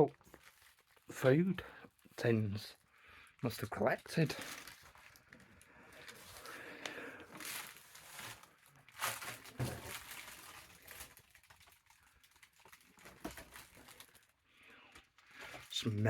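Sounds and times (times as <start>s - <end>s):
rustling and crinkling: 0.0s - 1.2s, 1.9s - 16.0s.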